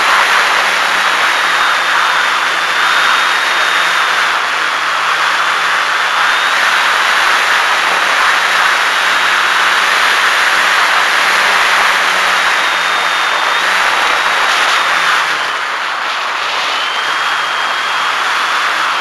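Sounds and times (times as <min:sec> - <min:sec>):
faint high motor whine: 0:00.0 - 0:19.0
wind and propeller noise: 0:00.0 - 0:19.0.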